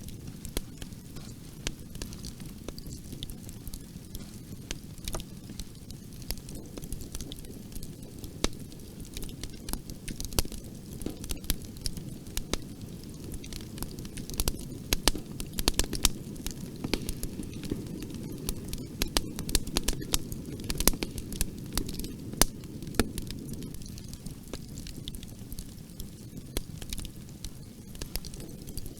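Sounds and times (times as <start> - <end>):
bonfire rumble: 0.0 - 28.9
wood crackling and popping: 0.0 - 28.9.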